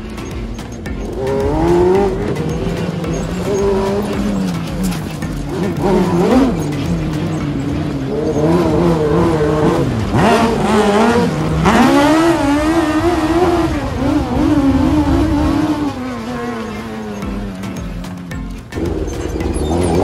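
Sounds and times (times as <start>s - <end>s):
motorcycle engine revving hard: 0.0s - 20.0s.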